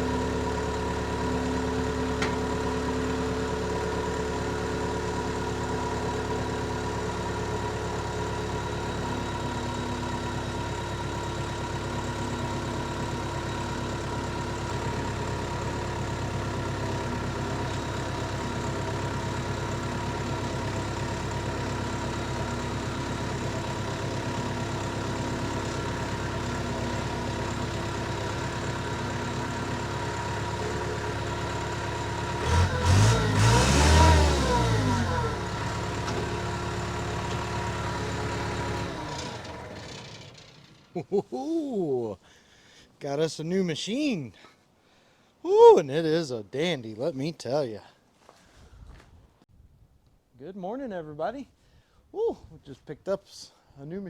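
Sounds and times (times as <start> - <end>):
diesel engine idling: 0.0 - 47.6.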